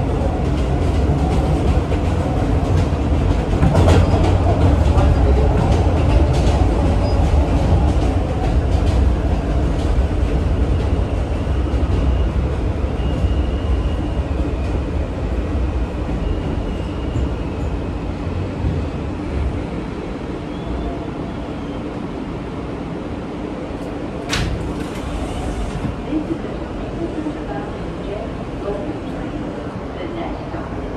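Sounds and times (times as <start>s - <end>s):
subway car rumble: 0.0s - 30.9s.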